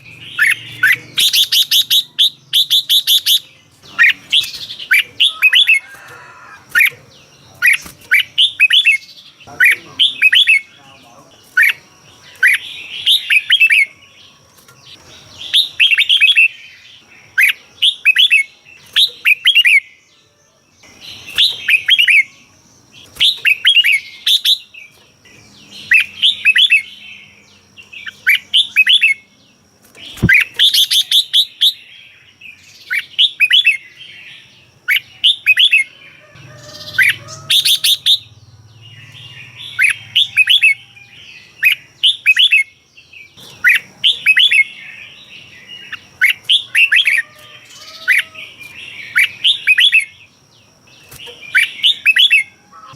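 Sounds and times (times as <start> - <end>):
bird chirping song: 0.0 - 52.9.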